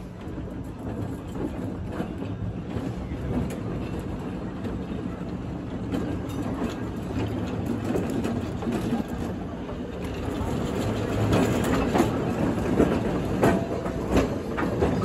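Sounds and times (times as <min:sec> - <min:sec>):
trolley wheels clicking on rails: 0:00.0 - 0:15.0.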